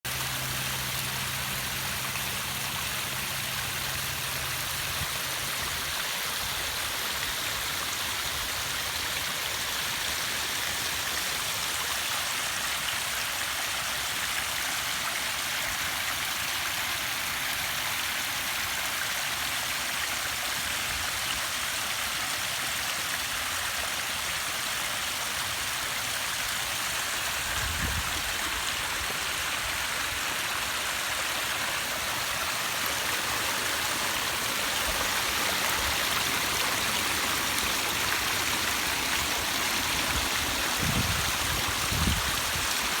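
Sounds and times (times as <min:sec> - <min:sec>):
waterfall splashing over rocks: 0:00.0 - 0:43.0.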